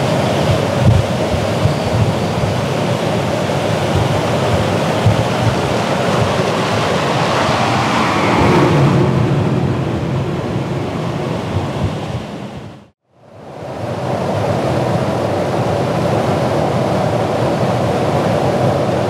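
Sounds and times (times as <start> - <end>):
aircraft engines and airflow roar: 0.0 - 19.0.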